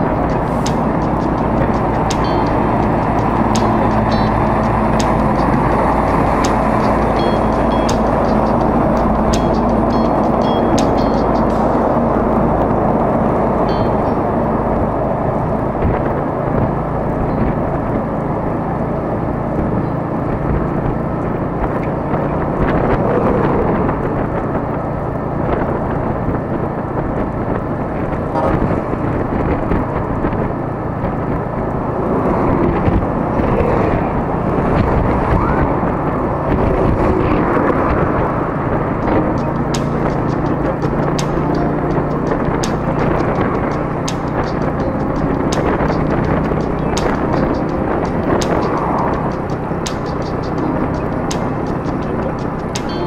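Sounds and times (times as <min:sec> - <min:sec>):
scooter engine drone: 0:00.0 - 0:53.0
wind buffeting microphone: 0:00.0 - 0:53.0.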